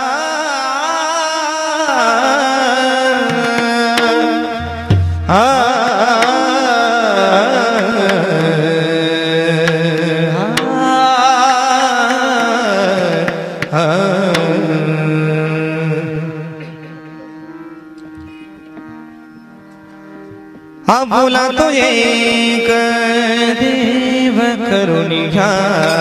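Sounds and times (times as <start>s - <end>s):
person singing devotional song: 0.0s - 18.0s, 20.8s - 26.0s.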